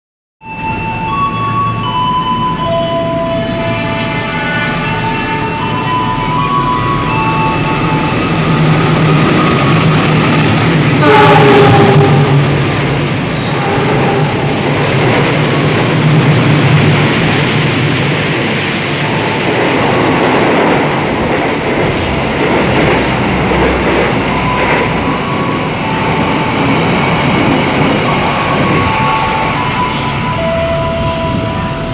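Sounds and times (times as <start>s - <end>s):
second train passing: 0.4s - 31.9s
train passing at speed: 0.4s - 31.9s.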